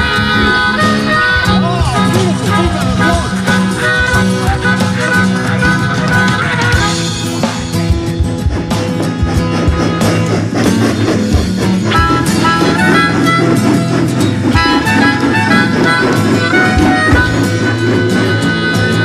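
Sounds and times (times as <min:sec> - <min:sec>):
instrumental music with beat: 0:00.0 - 0:19.0.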